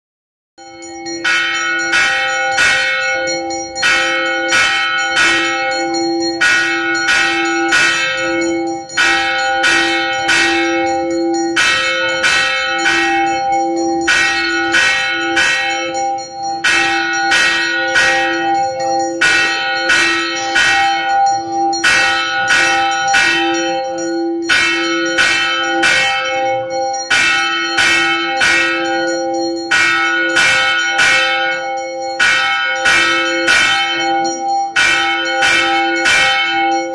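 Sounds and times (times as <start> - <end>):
temple bells ringing: 0.6 - 36.9.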